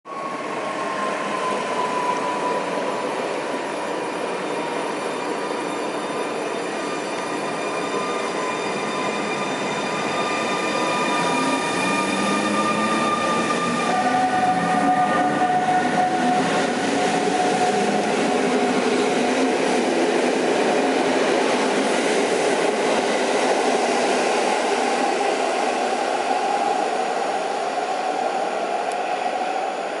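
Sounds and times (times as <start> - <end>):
electric locomotive whining: 0.1 - 30.0.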